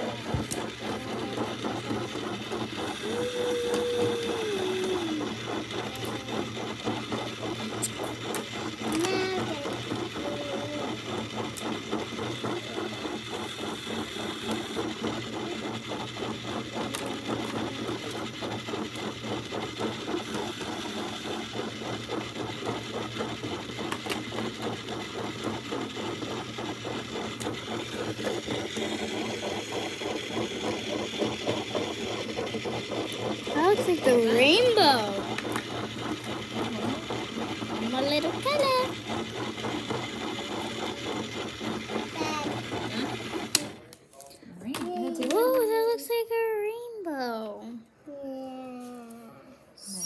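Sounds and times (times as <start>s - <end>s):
small electric motor rattling: 0.0s - 43.9s, 44.6s - 47.6s.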